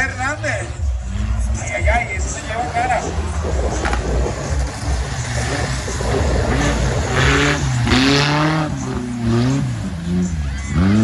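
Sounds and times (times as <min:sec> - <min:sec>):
race vehicle engines revving: 0:00.0 - 0:11.0.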